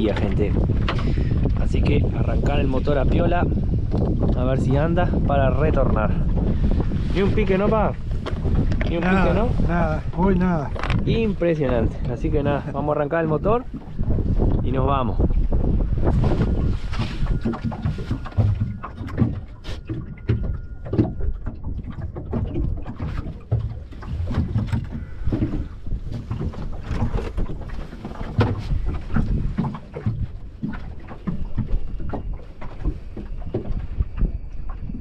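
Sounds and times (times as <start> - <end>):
water against boat hull: 0.0 - 35.0
wind buffeting microphone: 0.0 - 35.0.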